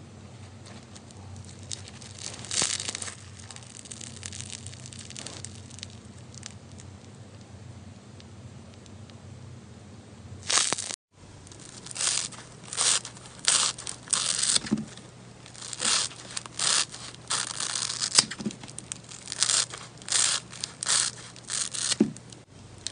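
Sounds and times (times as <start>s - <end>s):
slime crunching by hand: 0.6s - 6.7s, 10.4s - 22.9s.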